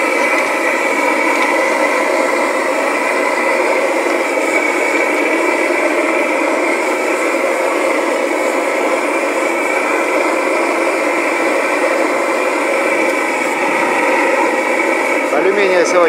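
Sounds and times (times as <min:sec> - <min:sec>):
furnace rushing with a hum: 0:00.0 - 0:16.0.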